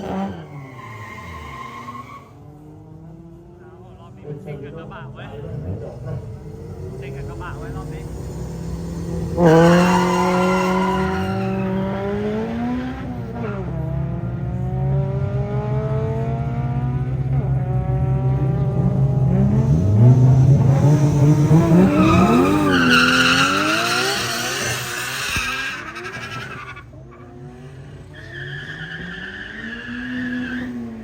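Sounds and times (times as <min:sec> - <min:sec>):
car and truck engines accelerating: 0:00.0 - 0:31.0.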